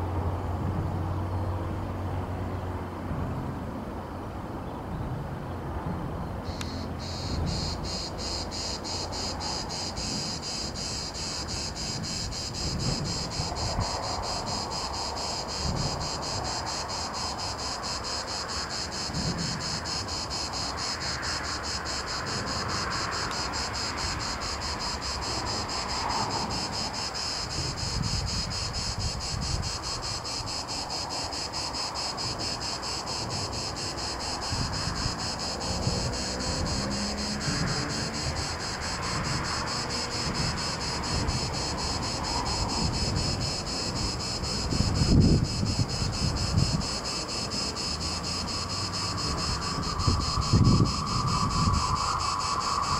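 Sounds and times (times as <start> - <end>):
wind gusts on microphone: 0.0 - 52.9
buzzing insect chorus: 6.4 - 52.9.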